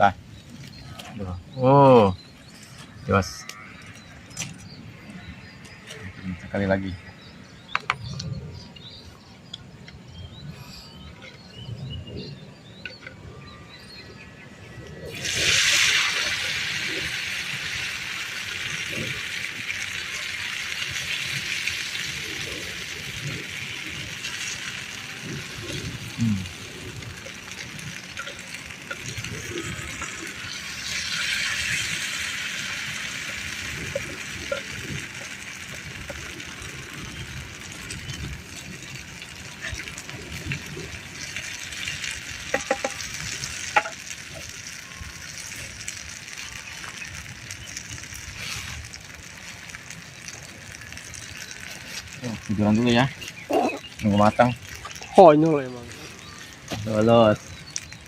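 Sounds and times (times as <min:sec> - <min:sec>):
food sizzling: 0:00.0 - 0:58.0.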